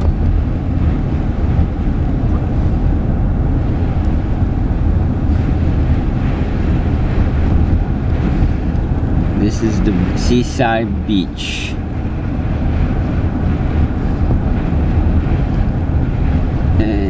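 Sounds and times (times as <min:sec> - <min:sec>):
car rumble from inside: 0:00.0 - 0:17.0
road and wind noise: 0:00.0 - 0:17.0.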